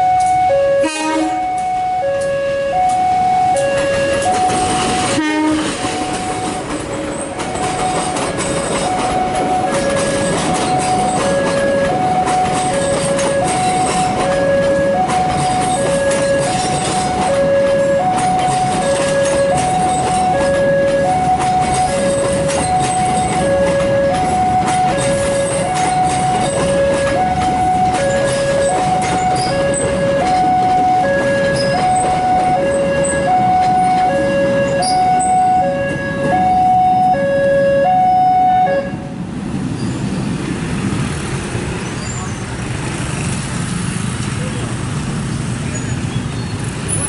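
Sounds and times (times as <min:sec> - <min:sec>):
level crossing alarm two-note tone: 0:00.0 - 0:06.7, 0:07.6 - 0:39.0
traffic: 0:00.0 - 0:47.0
train rumbling past: 0:00.0 - 0:47.0.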